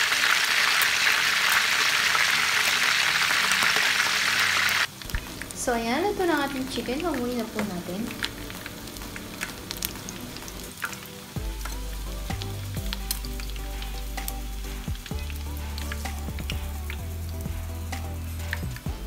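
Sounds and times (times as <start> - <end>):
chicken wings deep-frying in oil: 0.0 - 19.0.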